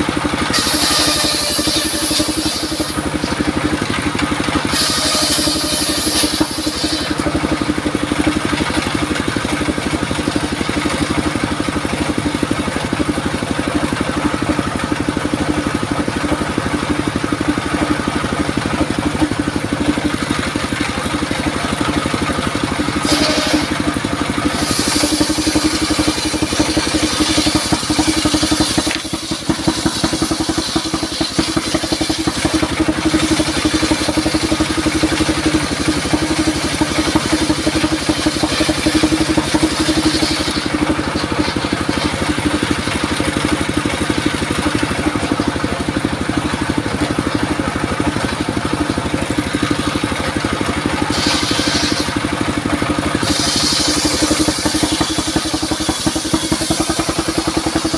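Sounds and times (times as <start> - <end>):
circular saw cutting wood: 0.0 - 57.9
diesel engine thumping: 0.0 - 57.9.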